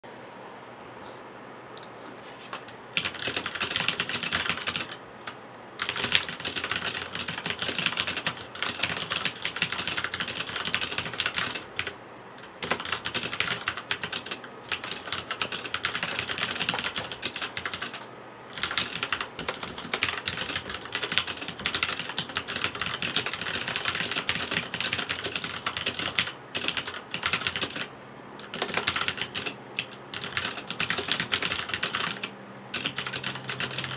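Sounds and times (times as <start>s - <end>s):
fast typing on mechanical keyboard: 3.0s - 5.0s, 5.8s - 33.9s.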